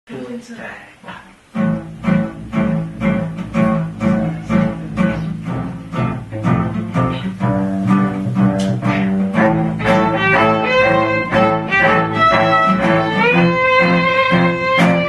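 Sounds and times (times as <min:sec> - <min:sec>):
string instrumental music: 0:01.5 - 0:15.0.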